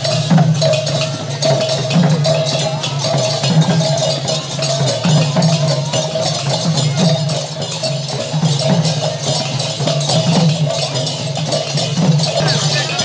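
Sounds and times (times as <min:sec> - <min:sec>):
hand drums playing fast rhythm: 0:00.0 - 0:13.0
metal hand cymbals clanging: 0:00.0 - 0:13.0.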